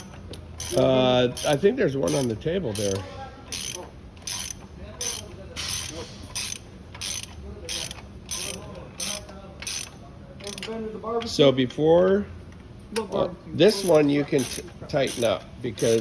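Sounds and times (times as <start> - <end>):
ratchet wrench clicking: 0.0 - 11.4, 13.0 - 16.0.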